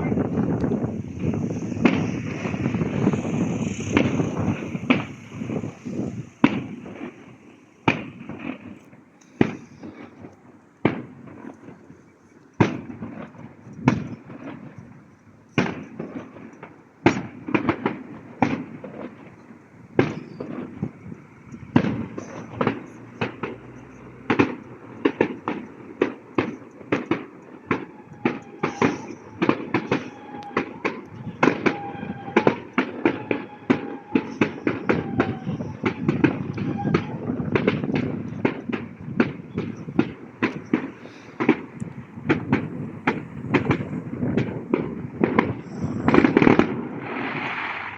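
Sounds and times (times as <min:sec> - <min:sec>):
fireworks bangs with echoes: 0:00.0 - 0:47.9.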